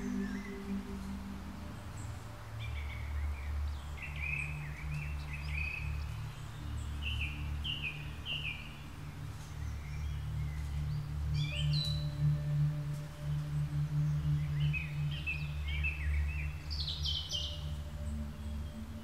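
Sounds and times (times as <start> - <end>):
background music drone: 0.0 - 19.0
birds chirping: 0.0 - 19.0.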